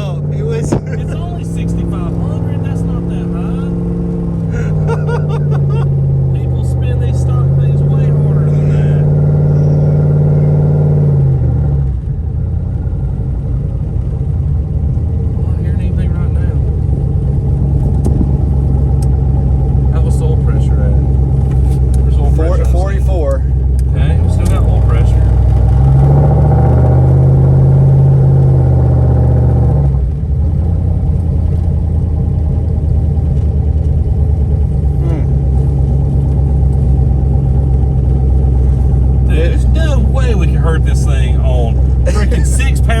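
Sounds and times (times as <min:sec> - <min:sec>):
engine running with pulsing note: 0:00.0 - 0:43.0.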